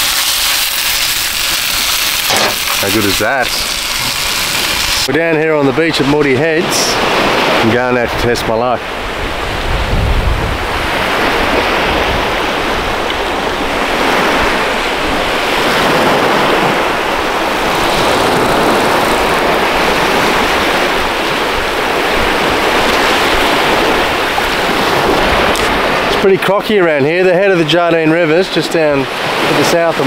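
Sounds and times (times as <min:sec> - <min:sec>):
wind rumbling on microphone: 0:00.0 - 0:26.5
waves washing up beach: 0:00.0 - 0:30.0.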